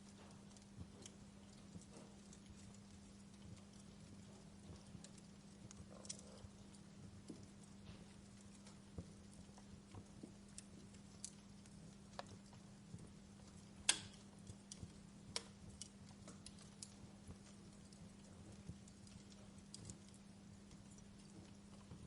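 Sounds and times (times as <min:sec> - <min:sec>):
faint low hum: 0:00.0 - 0:22.0
fire crackling and popping: 0:00.0 - 0:22.0.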